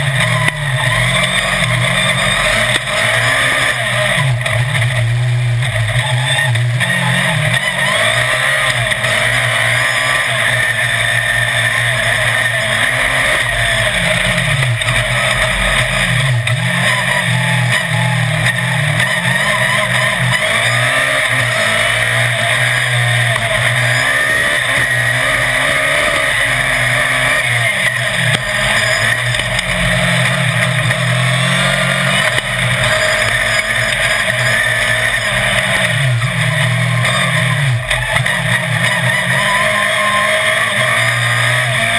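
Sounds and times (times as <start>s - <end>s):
dirt track noise: 0.0s - 41.9s
race car engine revving: 0.0s - 41.9s.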